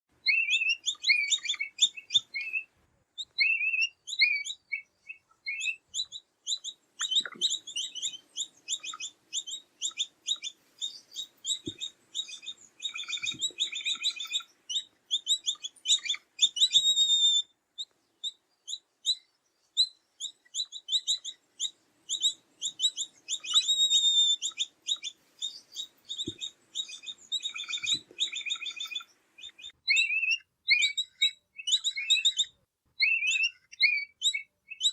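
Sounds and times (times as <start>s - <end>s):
capybara chirping: 0.3s - 34.9s.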